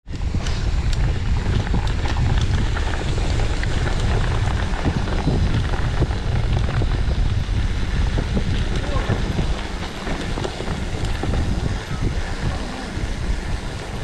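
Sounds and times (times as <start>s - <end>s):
wind and tyre rumble: 0.0s - 14.0s
bike clicks and rattles: 0.1s - 14.0s.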